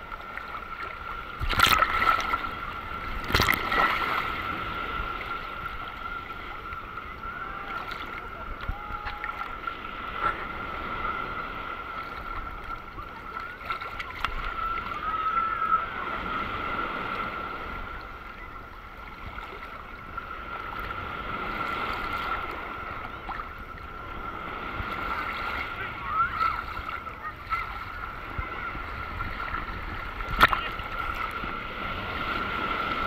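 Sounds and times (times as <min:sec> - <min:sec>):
waves lapping: 0:00.0 - 0:33.0
thin steady whine: 0:02.2 - 0:33.0.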